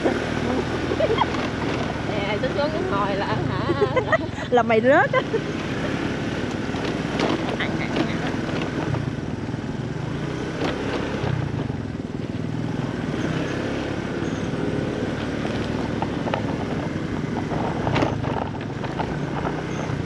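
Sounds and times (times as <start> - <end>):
knocks and rattles over ruts: 0.0 - 20.0
motorcycle engine running: 0.0 - 20.0.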